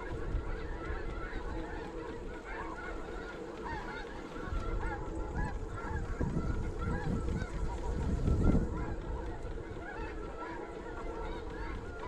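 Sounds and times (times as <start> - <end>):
geese honking: 0.0 - 12.0
wind buffeting microphone: 0.0 - 12.0.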